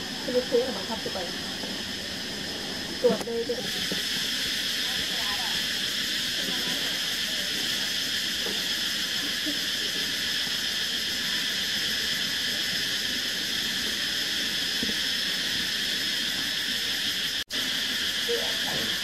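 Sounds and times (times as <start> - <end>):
cicadas droning: 0.0 - 19.0.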